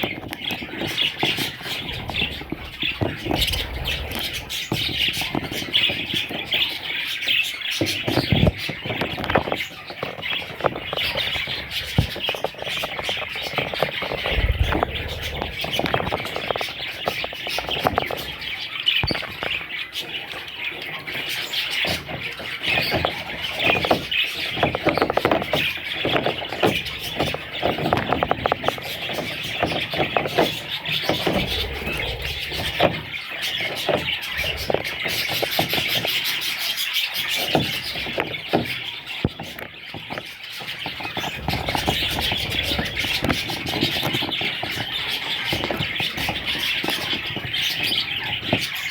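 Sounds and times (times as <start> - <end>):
budgerigars chattering and chirping: 0.0 - 48.9.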